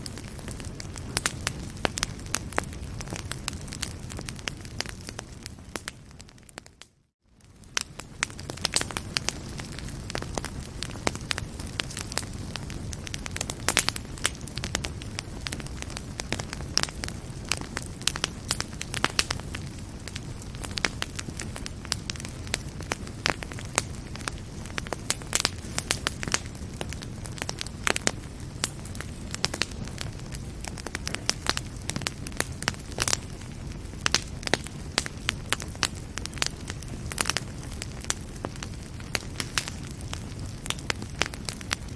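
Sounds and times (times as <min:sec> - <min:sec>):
fire crackling and popping: 0:00.0 - 0:41.9
fire rumbling in a fireplace: 0:00.0 - 0:41.9.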